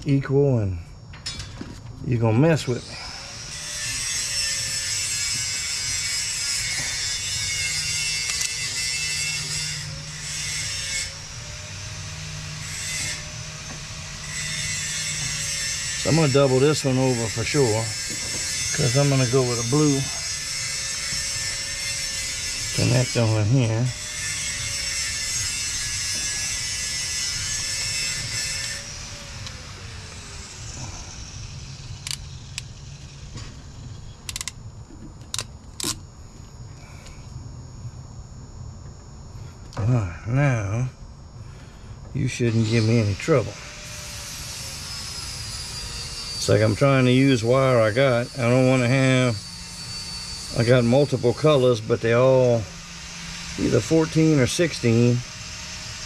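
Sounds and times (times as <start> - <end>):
faint motor whine: 0.0 - 56.0
steady low hum: 0.0 - 56.0
grinder rasping: 2.7 - 34.6, 42.4 - 56.0.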